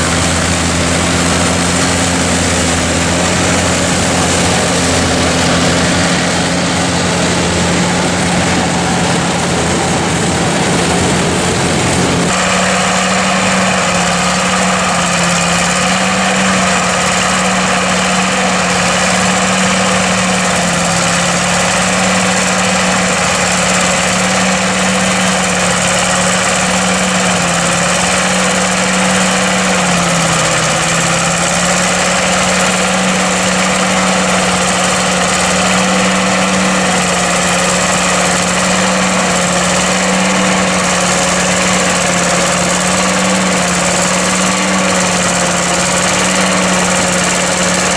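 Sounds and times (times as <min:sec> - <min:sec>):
forage harvester mechanical whir: 0:00.0 - 0:47.9
tractor diesel engine running: 0:00.0 - 0:47.9.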